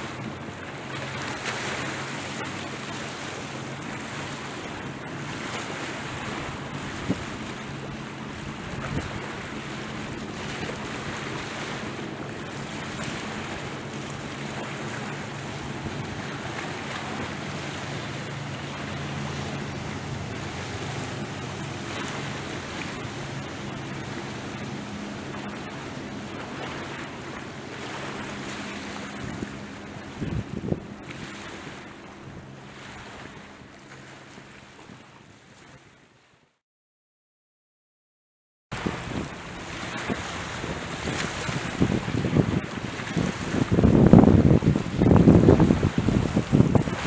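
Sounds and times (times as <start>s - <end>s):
waves washing against shore: 0.0s - 35.9s, 38.7s - 47.0s
motorboat engines droning: 0.0s - 36.3s, 38.7s - 47.0s
wind buffeting microphone: 1.2s - 33.3s, 38.7s - 47.0s.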